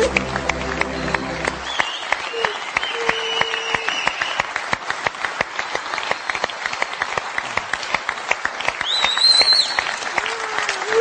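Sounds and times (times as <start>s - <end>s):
studio audience applauding: 0.0s - 11.0s.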